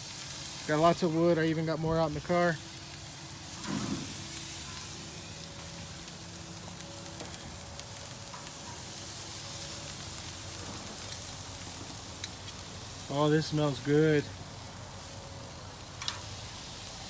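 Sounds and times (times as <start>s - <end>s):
chicken sizzling on a grill: 0.0s - 17.0s.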